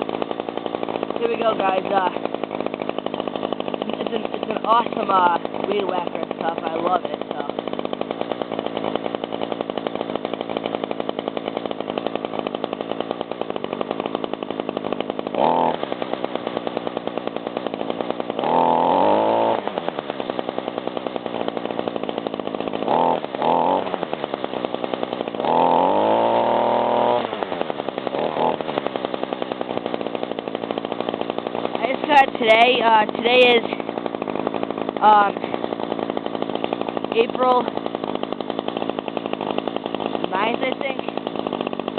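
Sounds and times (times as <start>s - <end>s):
string trimmer engine idling and revving: 0.0s - 41.9s.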